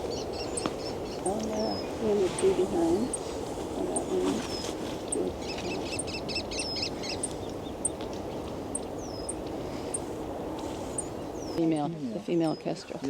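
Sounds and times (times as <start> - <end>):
small birds high calls: 0.0 - 11.6
low background rumble: 0.0 - 12.4.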